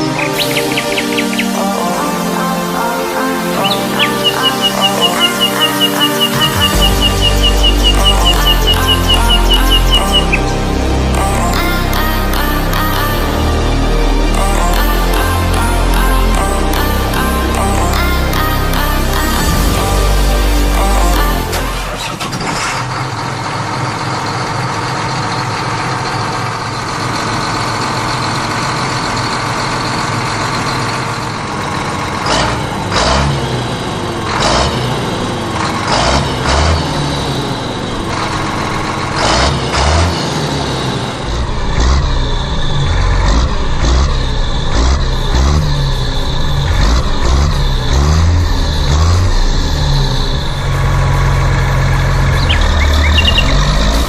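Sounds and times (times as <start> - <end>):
tractor engine revving: 0.0 - 54.0.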